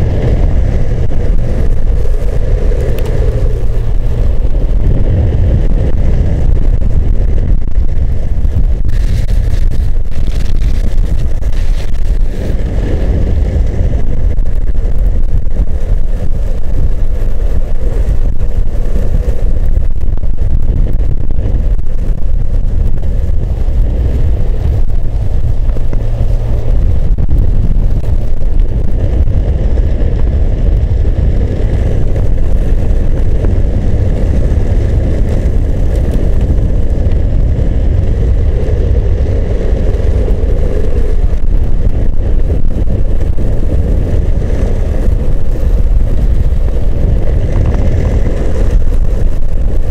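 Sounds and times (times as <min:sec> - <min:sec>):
low road rumble: 0:00.0 - 0:49.9
wind buffeting microphone: 0:00.0 - 0:49.9.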